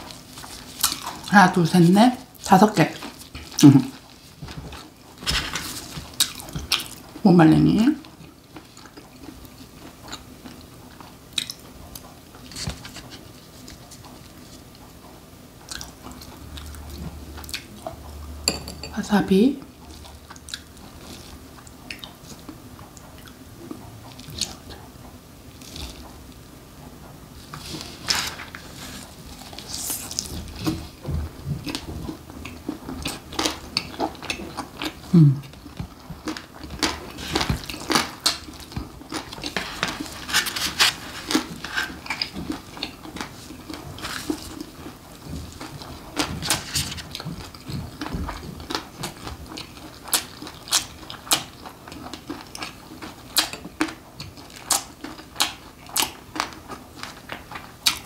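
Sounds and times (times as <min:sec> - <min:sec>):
chewing and wet mouth noises: 0:00.0 - 0:01.4, 0:02.3 - 0:07.2, 0:08.0 - 0:18.2, 0:19.6 - 0:26.4, 0:27.4 - 0:58.0.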